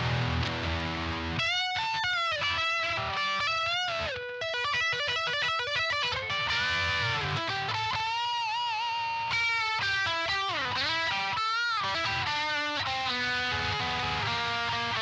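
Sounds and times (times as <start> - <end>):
electric guitar lead line: 0.0 - 15.0.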